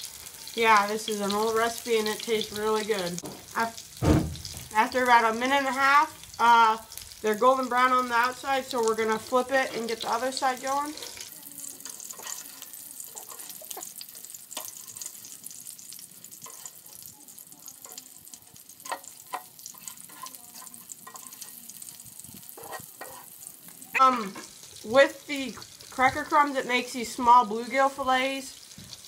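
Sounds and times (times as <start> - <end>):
fish frying in a pan: 0.0 - 29.0.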